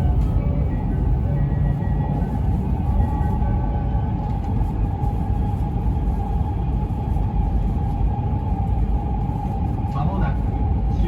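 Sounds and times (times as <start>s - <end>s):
train interior low rumble: 0.0s - 11.0s.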